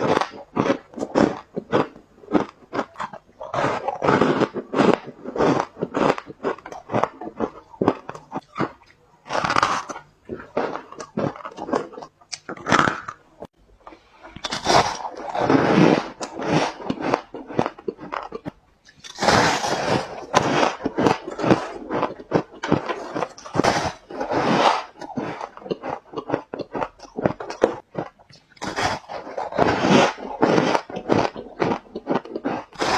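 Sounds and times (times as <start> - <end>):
ice crunching between teeth: 0.0 - 32.9.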